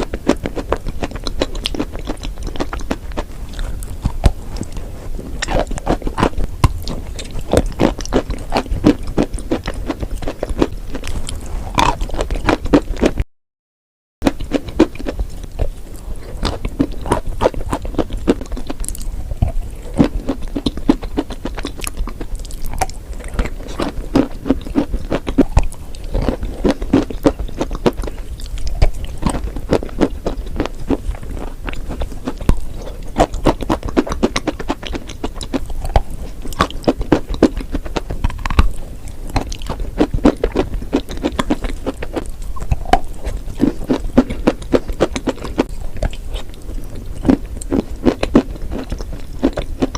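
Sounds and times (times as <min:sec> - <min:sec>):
chewing crunchy chalk: 0:00.0 - 0:13.2, 0:14.2 - 0:49.9.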